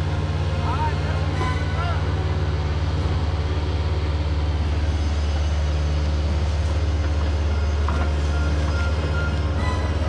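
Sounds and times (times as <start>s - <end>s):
diesel engines running: 0.0s - 10.0s.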